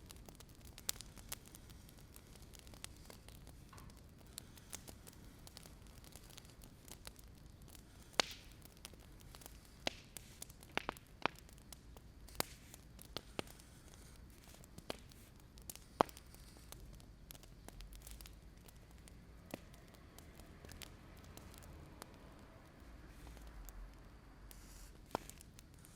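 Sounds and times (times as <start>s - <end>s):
faint steady hiss: 0.0s - 25.9s
wood fire crackling: 0.0s - 25.9s.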